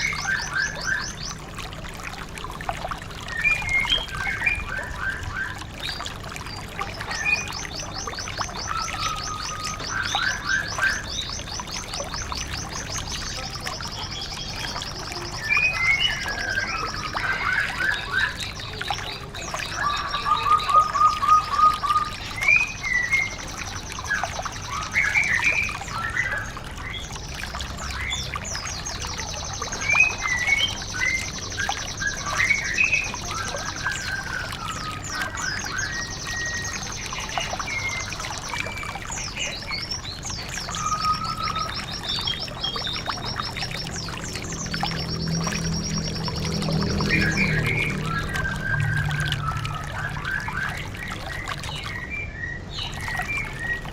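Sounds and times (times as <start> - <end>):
birdsong chirps and trills: 0.0 - 53.9
running water trickling: 0.0 - 53.9.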